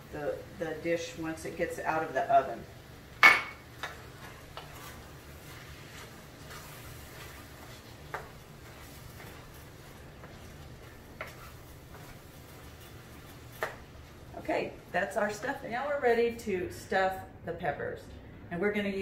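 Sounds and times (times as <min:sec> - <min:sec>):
wooden spoon stirring in skillet: 0:00.0 - 0:15.7.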